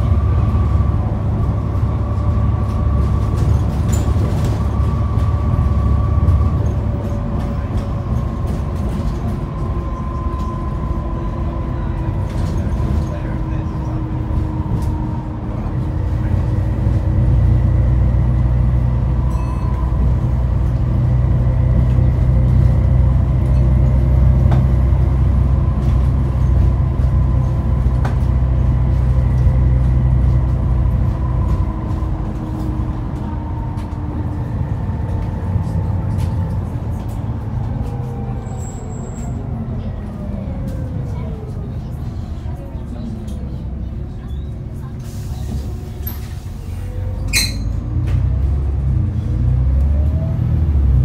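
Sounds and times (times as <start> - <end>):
bus diesel engine drone: 0.0 - 51.0.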